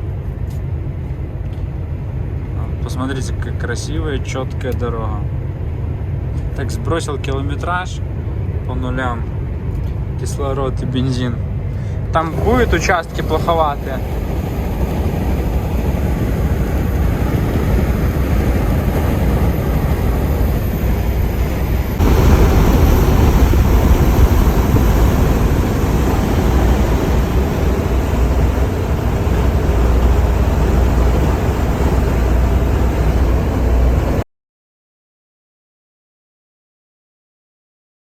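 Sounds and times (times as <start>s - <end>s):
truck road and wind noise: 0.0s - 34.2s.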